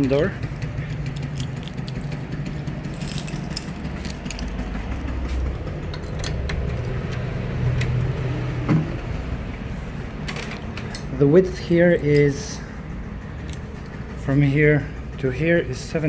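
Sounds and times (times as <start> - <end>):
metallic clicks and jingles: 0.0 - 8.2, 10.1 - 16.0
road traffic rumble: 0.0 - 16.0.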